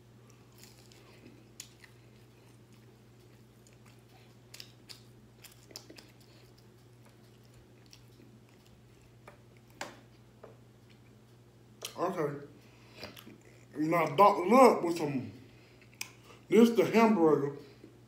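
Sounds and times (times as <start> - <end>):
low steady hum: 0.0 - 18.0
faint chewing: 0.2 - 14.2, 15.5 - 16.5.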